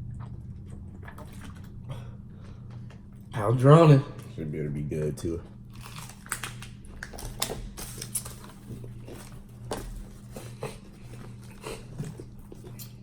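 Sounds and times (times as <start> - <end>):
chewing crunchy food: 0.0 - 3.3, 5.4 - 13.0
steady low hum: 0.0 - 13.0.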